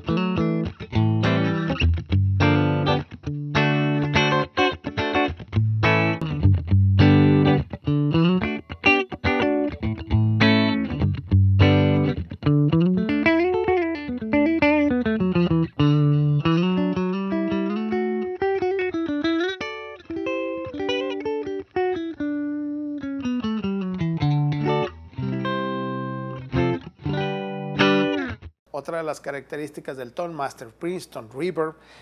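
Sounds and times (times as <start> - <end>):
electric guitar melody: 0.0 - 28.5.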